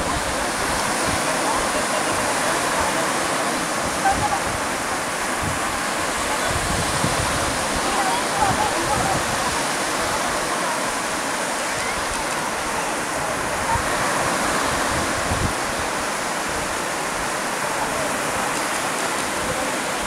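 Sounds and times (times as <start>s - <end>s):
waves washing onto beach: 0.0s - 20.0s
wind gusts on microphone: 0.0s - 20.0s.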